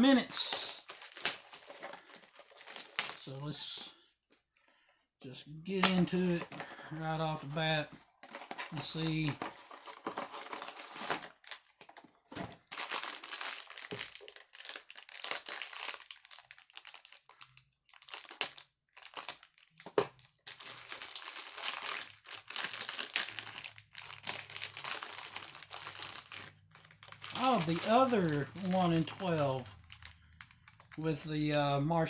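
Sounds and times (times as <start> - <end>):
foil bag crinkling and tearing: 0.0 - 3.4, 5.8 - 31.3.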